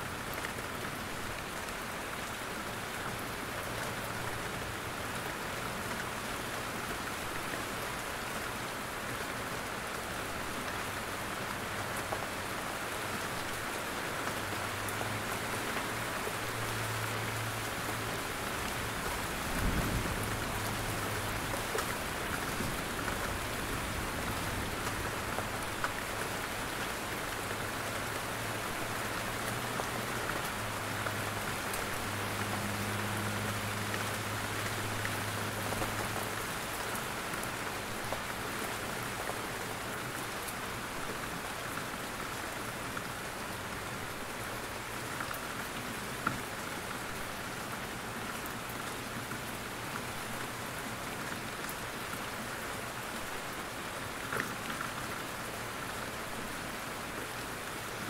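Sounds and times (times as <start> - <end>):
steady rain in forest: 0.0 - 58.0.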